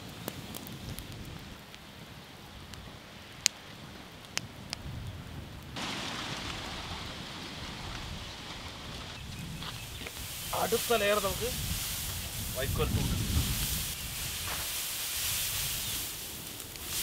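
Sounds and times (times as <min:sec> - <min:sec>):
burning straw crackling and hissing: 0:00.0 - 0:17.0
fire popping: 0:00.0 - 0:17.0.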